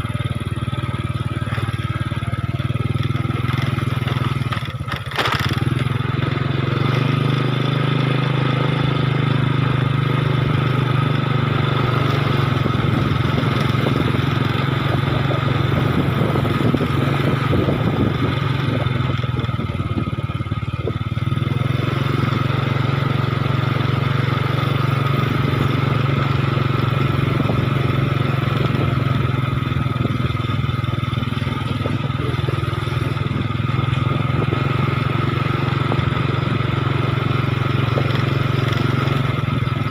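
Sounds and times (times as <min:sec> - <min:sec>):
vehicle engine humming: 0:00.0 - 0:39.9.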